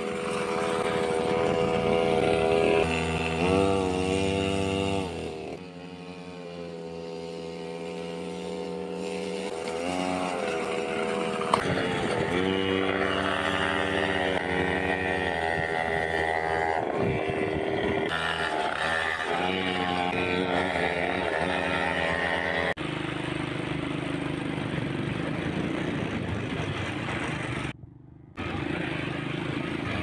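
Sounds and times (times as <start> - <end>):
small motorbike engine revving: 0.0 - 30.0.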